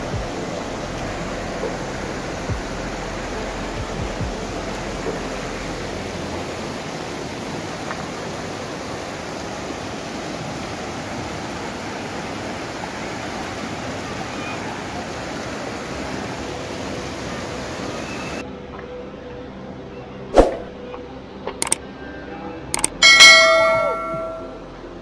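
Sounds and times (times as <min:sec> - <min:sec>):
stream rushing over boulders: 0:00.0 - 0:18.5, 0:22.8 - 0:24.7.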